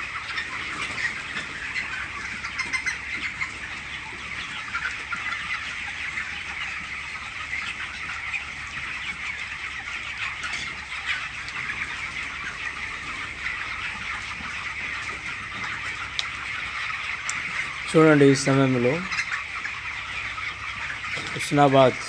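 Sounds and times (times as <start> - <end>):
chickens clucking and cheeping: 0.0 - 22.0.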